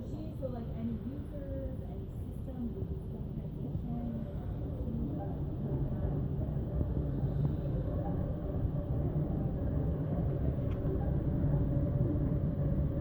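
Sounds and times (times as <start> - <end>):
elevated train rumble: 0.0 - 13.0.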